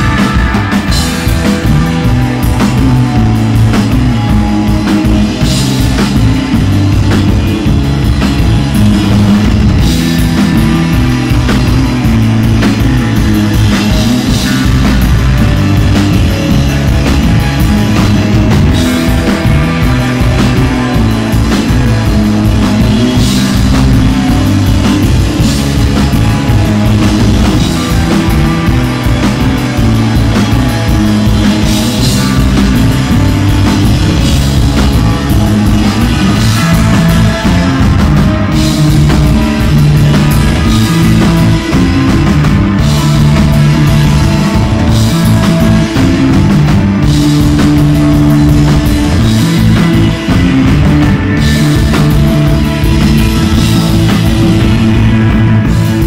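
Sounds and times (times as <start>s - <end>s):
cymbal-driven drumming: 0.0s - 56.0s
rock band playing: 0.0s - 56.0s
sustained bass notes: 0.0s - 56.0s.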